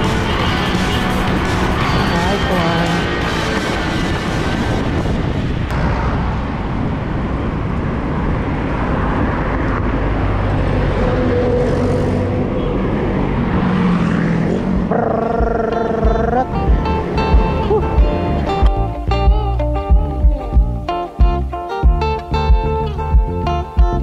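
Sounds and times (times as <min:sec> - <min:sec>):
steady engine tones: 0:00.0 - 0:20.8
road traffic: 0:00.0 - 0:24.0
wind noise: 0:00.0 - 0:24.0.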